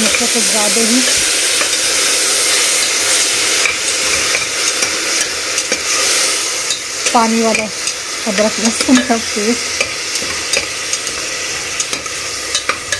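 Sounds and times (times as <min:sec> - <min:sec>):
onions sizzling in hot oil: 0:00.0 - 0:12.9.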